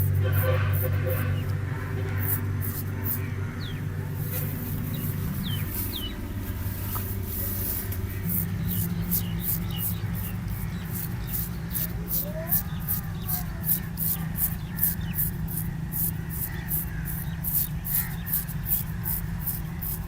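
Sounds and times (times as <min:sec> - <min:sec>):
razor scraping hair and skin: 0:00.0 - 0:20.0
steady low hum: 0:00.0 - 0:20.0.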